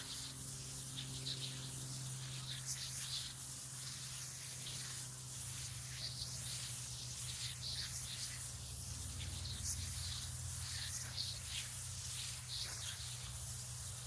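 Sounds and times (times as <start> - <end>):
low steady hum: 0.0 - 14.0
water spraying hiss: 2.2 - 14.0.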